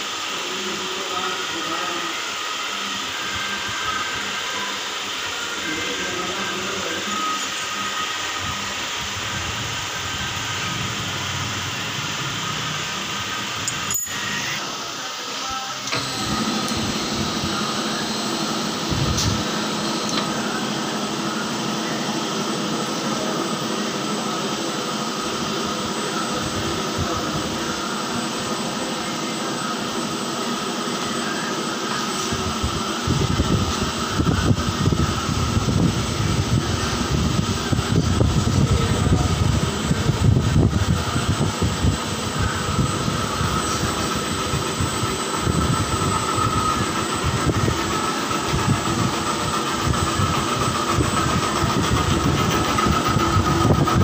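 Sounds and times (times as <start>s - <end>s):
milling machine whine and hum: 0.0s - 54.0s.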